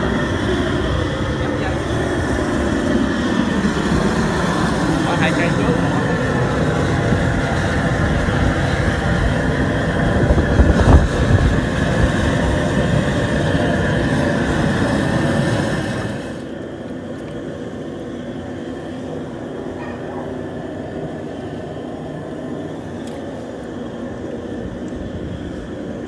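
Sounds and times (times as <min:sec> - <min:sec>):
propane jet burner rushing: 0:00.0 - 0:26.0.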